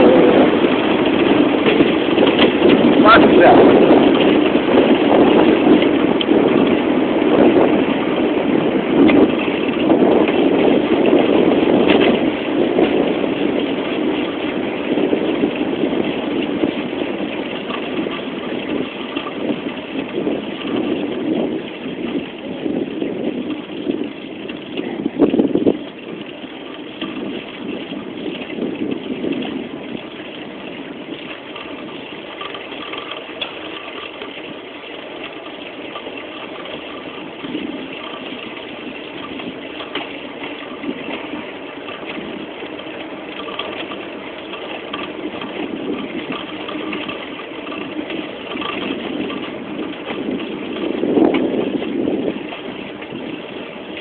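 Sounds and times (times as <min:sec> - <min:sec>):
bicycle rolling noise: 0:00.0 - 0:54.0
wind on microphone: 0:00.0 - 0:54.0.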